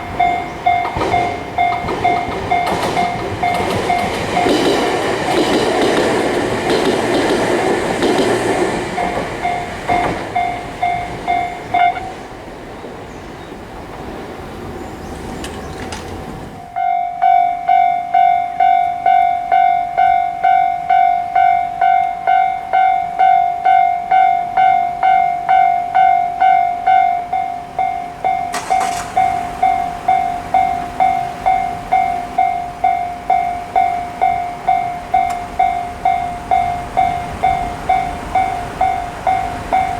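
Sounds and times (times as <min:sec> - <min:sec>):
level-crossing bell ringing: 0:00.0 - 0:05.5, 0:08.9 - 0:12.2, 0:16.6 - 0:39.9
train rumbling: 0:00.0 - 0:39.9.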